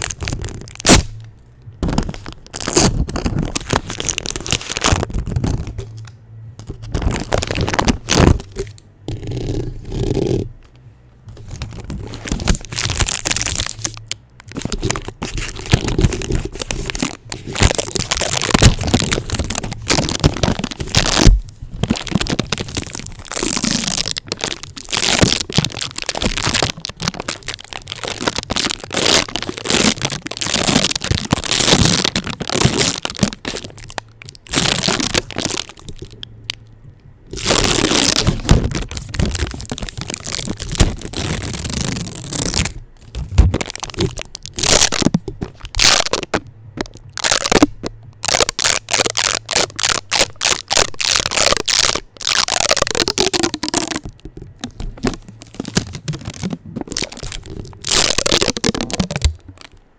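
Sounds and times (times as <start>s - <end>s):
adhesive tape crackling on microphone: 0.0s - 59.9s.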